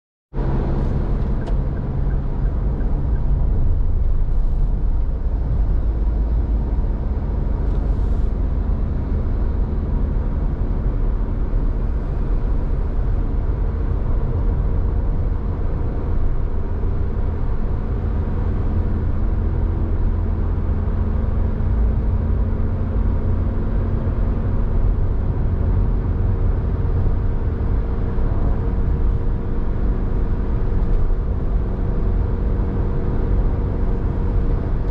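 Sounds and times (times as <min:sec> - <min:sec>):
road noise: 0:00.3 - 0:34.9
vehicle engine hum: 0:00.3 - 0:34.9.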